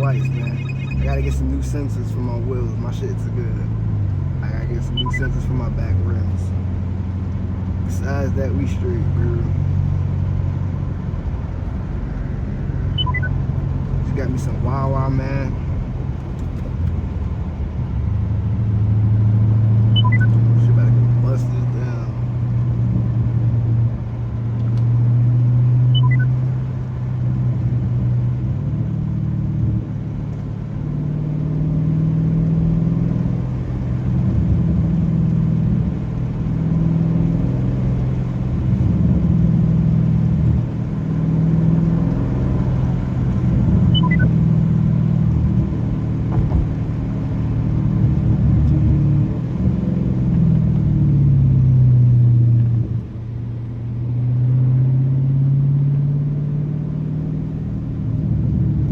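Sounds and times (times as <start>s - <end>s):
car exhaust note while driving: 0.0s - 58.9s.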